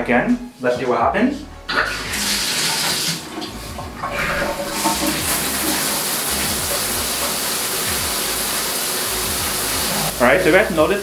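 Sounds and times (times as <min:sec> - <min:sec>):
shower water spraying: 0:01.7 - 0:11.0.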